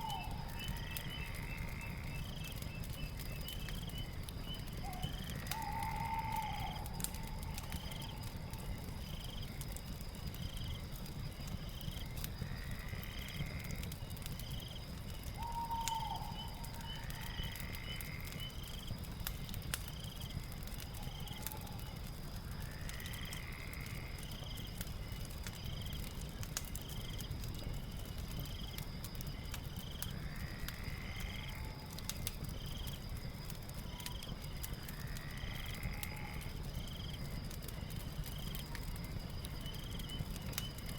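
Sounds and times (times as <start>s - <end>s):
fire crackling and popping: 0.0s - 40.9s
high insect trill: 0.0s - 40.9s
insect chirps: 0.0s - 40.9s
longer insect call: 0.0s - 40.9s.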